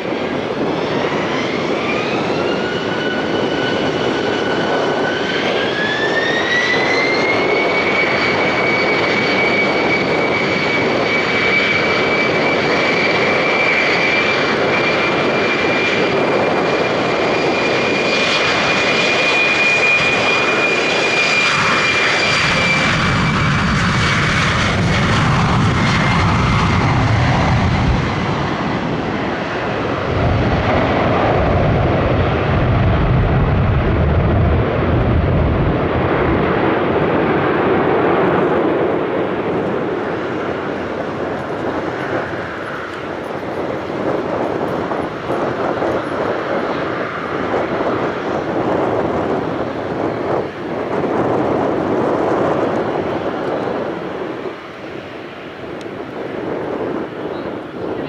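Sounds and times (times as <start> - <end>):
deep jet engine rumble: 0.0 - 58.0
jet engine whine: 0.0 - 58.0.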